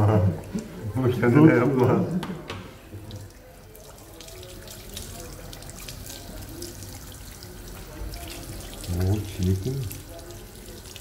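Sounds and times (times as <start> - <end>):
water spraying into a sink: 0.0 - 11.0.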